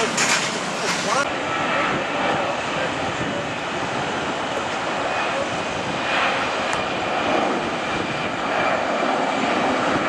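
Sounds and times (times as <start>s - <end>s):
jet engines at takeoff thrust: 0.0s - 10.0s.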